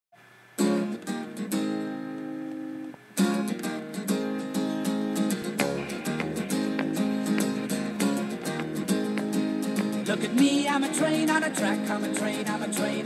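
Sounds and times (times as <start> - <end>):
acoustic guitar strumming: 0.6 - 13.0.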